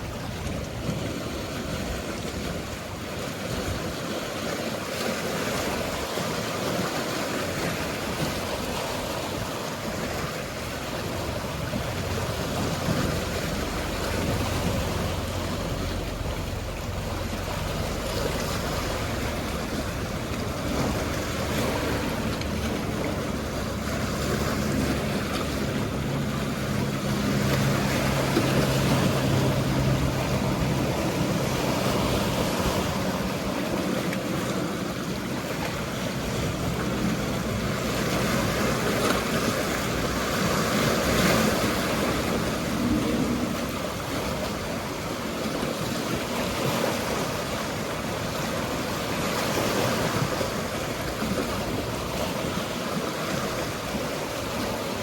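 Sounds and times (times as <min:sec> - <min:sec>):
boat engine hum: 0:00.0 - 0:55.0
sea waves washing: 0:00.0 - 0:55.0
wind on microphone: 0:00.0 - 0:55.0.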